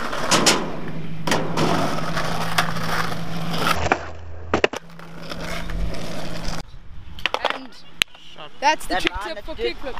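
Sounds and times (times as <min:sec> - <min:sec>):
skateboard wheels rolling on concrete: 0:00.0 - 0:09.9.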